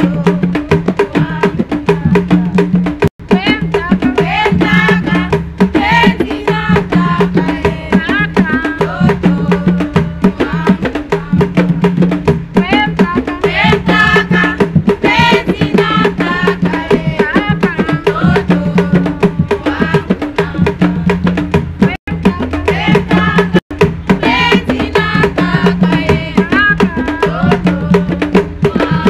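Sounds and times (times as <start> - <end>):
rapid drumming: 0.0 - 29.0.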